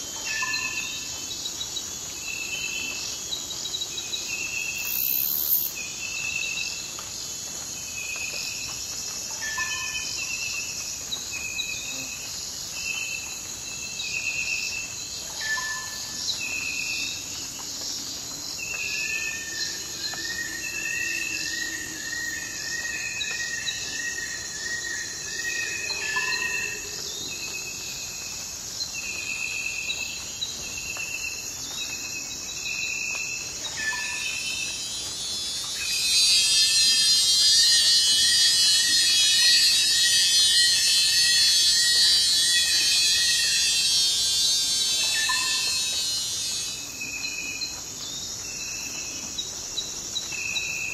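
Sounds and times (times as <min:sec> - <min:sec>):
high-pitched insect chorus: 0:00.0 - 0:50.9.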